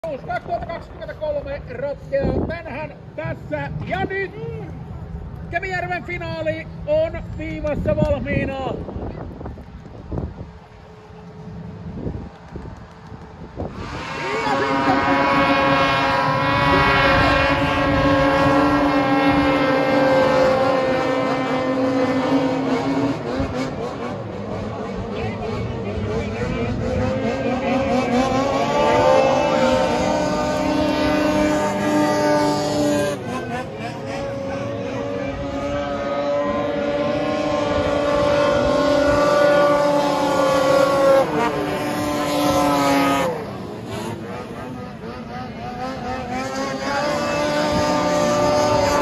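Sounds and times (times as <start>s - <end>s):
snowmobile engines howling: 0.0s - 49.0s.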